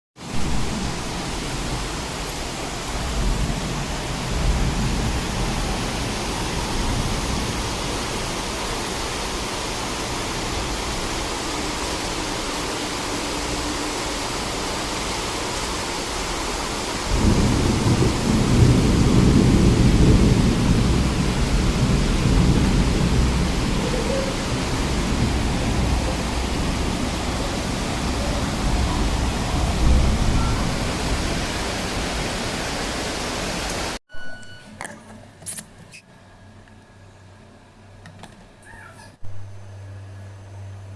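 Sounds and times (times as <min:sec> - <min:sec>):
thunder rumbling: 0:00.2 - 0:33.1
rain hissing: 0:00.2 - 0:34.0.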